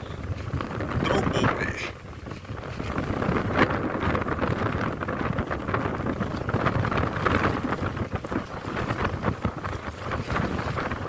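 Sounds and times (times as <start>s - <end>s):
waves slapping against raft: 0.0s - 11.0s
wind buffeting microphone: 0.0s - 11.0s.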